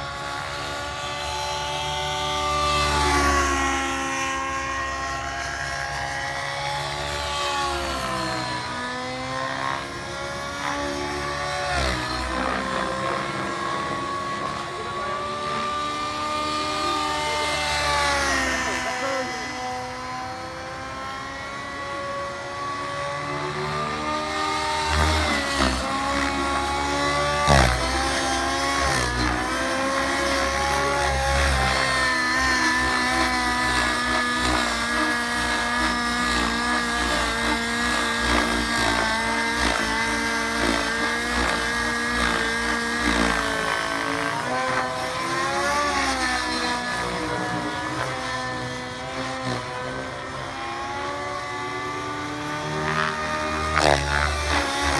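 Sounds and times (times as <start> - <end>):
model helicopter engine and rotors: 0.0 - 54.9.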